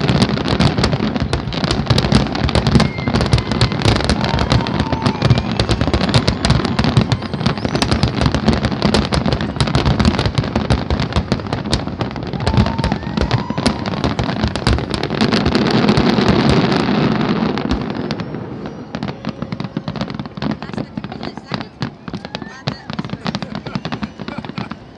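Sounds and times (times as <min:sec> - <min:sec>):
firework whistles: 0:00.0 - 0:24.9
fireworks bursting and crackling: 0:00.0 - 0:24.9.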